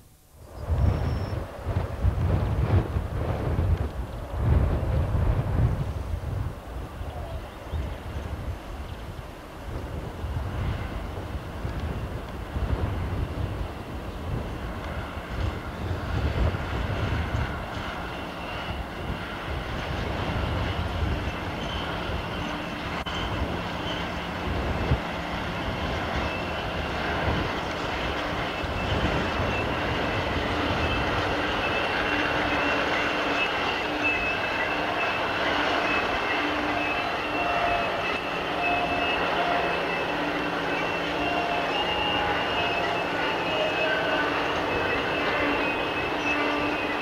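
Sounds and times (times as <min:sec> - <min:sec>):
steady high whine: 0:00.0 - 0:47.0
diesel locomotive rumbling past: 0:00.4 - 0:47.0.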